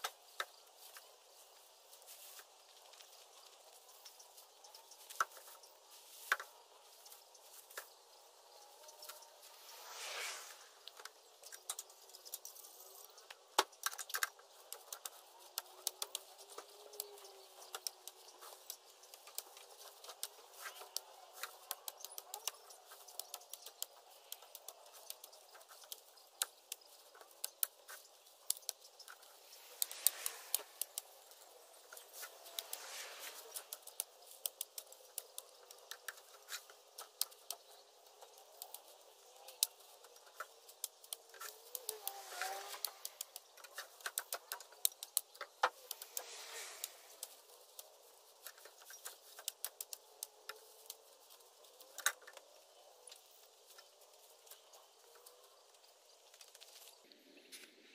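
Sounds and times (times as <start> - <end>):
leaves rustling: 0.0 - 57.9
twigs cracking and snapping: 8.6 - 57.8.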